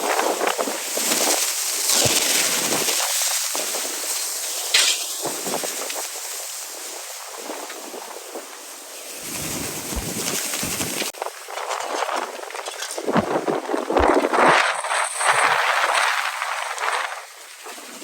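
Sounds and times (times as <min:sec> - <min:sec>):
wind gusting on microphone: 0:00.0 - 0:18.0.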